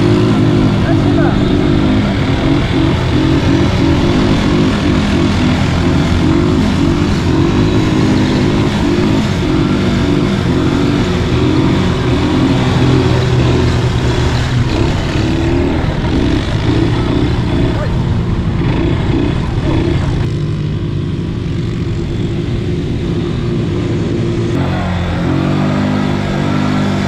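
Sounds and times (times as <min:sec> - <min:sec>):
quad bike engines revving: 0:00.0 - 0:27.0.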